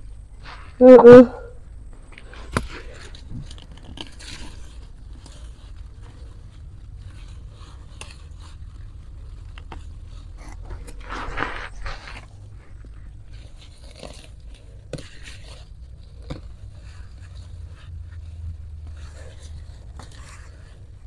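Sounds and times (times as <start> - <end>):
grass being pulled up by hand: 2.1 - 21.0.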